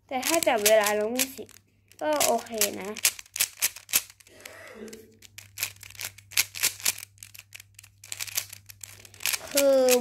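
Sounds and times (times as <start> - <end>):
plastic puzzle cube clicking: 0.2 - 4.5, 5.1 - 10.0.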